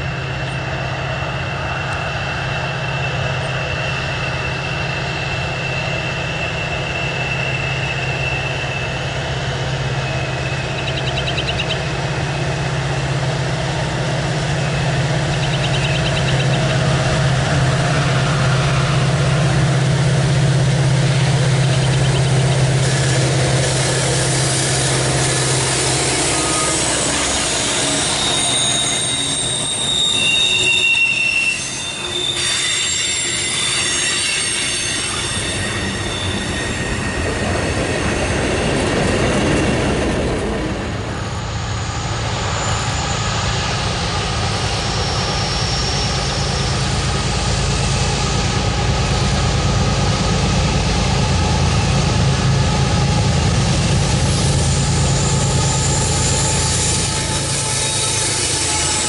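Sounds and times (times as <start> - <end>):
diesel locomotives running: 0.0 - 59.0
train wheels squealing: 0.0 - 59.0.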